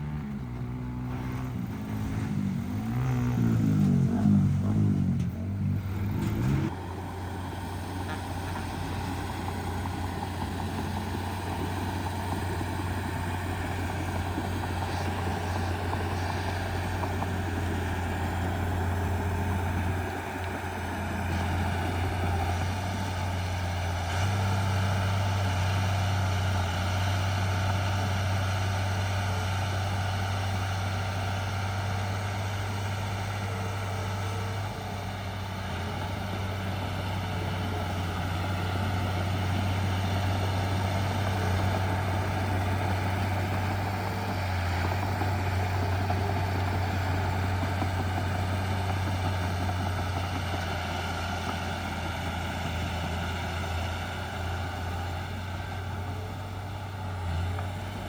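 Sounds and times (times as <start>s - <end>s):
heavy diesel engine droning: 0.0s - 58.0s.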